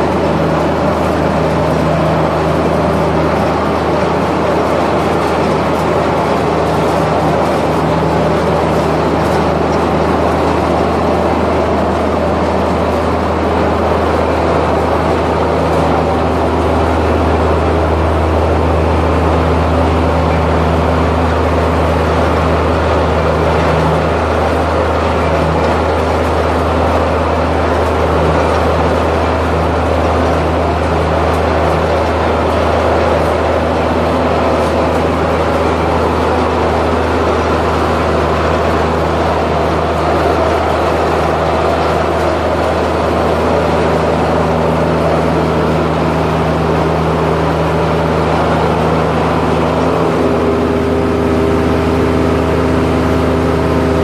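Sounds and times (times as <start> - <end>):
large machine droning: 0.0 - 54.0.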